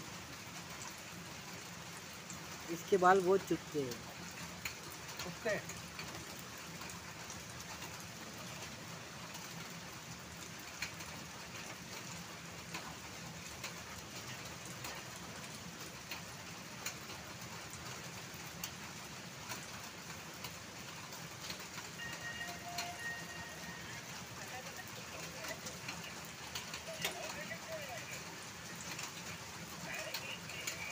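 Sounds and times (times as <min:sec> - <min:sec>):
faint rain ticks: 0:00.0 - 0:30.9
light rain hiss: 0:00.0 - 0:30.9.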